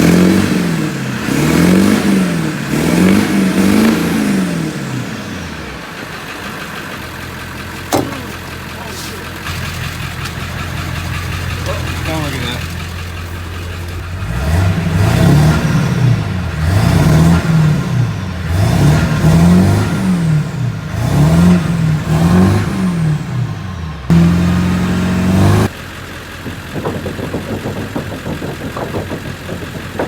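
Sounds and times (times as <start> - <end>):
diesel engine revving hard: 0.0 - 25.9
engine rattling: 0.0 - 30.0.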